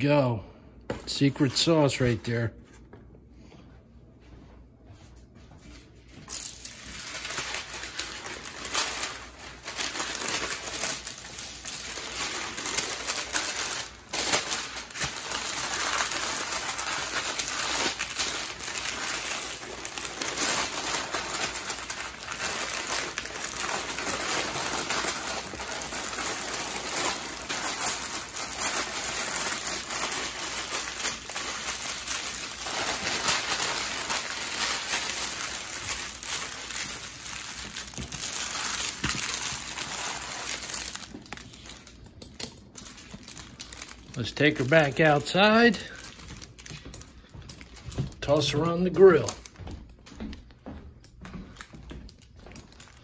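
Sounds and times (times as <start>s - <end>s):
paper rustling and crinkling: 5.2s - 50.4s, 51.0s - 53.0s.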